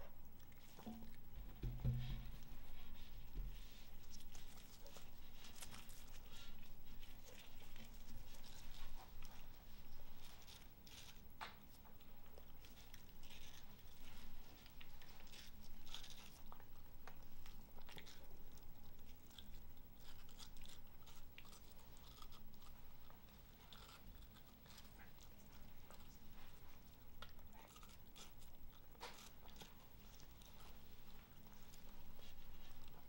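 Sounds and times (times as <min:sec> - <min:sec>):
dog chewing watermelon: 0:00.0 - 0:33.0.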